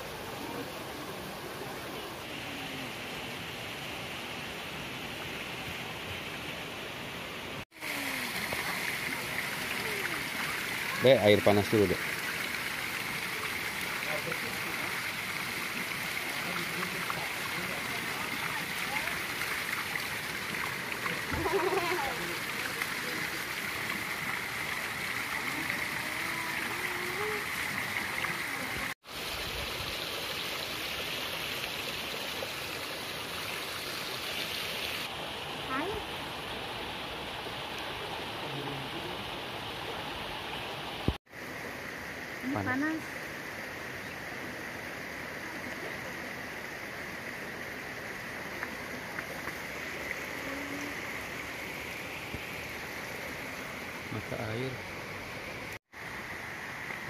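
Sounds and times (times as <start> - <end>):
water pouring and splashing into pool: 0.0 - 57.0.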